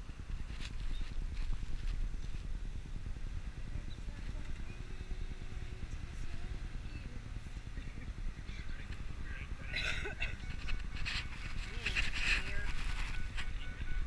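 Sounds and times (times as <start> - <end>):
road noise rumble: 0.0 - 14.0
wind buffeting microphone: 0.0 - 14.0.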